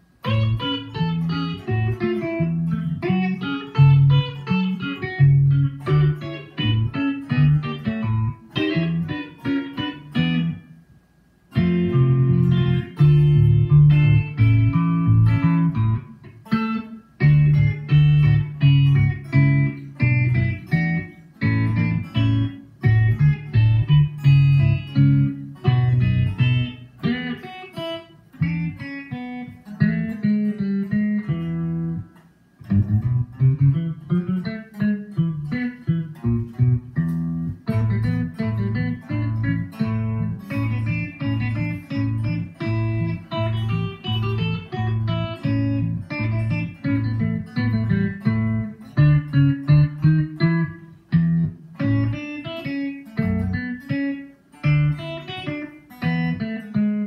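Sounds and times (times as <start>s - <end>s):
electric guitar playing a tune: 0.0s - 57.0s.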